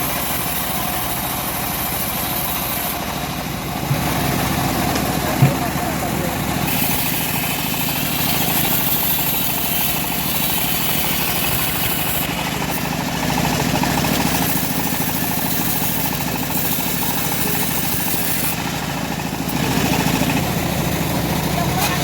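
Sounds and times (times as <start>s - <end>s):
bandsaw mill engine hum: 0.0s - 22.0s.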